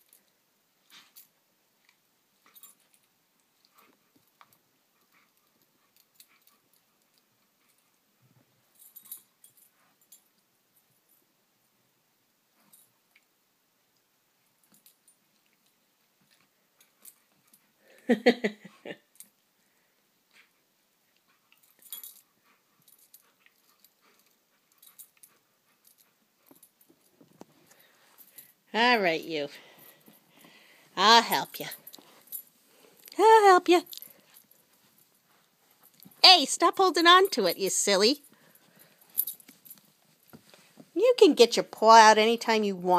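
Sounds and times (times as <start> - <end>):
soft dog sounds: 0.0 - 41.0
faint clicks and rustles: 0.0 - 42.9.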